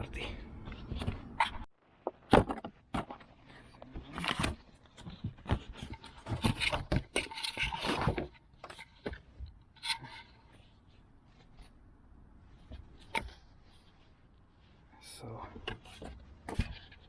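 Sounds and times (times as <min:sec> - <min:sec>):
filter rustling and scraping: 0:00.6 - 0:17.0.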